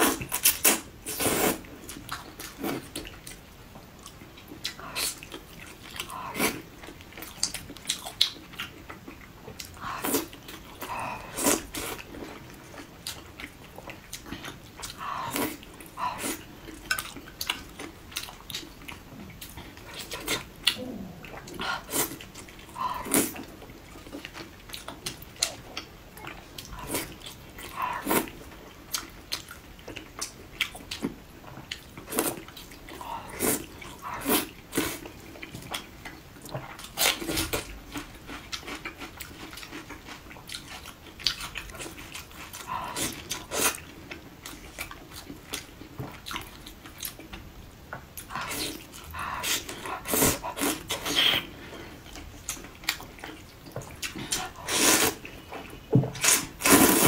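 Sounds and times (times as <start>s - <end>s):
person chewing: 0.0s - 47.4s, 48.2s - 57.0s.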